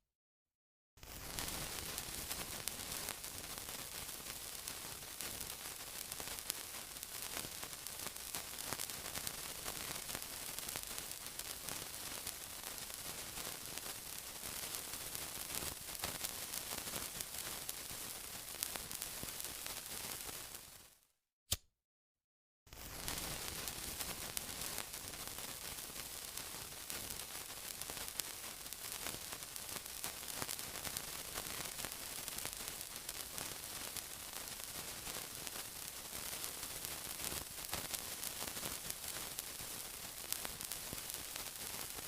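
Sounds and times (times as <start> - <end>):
sizzling with fine crackles: 1.0 - 21.0, 22.7 - 42.0.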